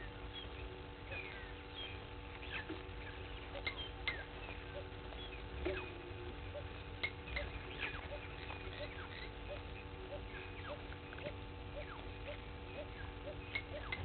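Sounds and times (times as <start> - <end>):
faint steady hum: 0.0 - 14.0
small birds chirping: 0.0 - 14.0.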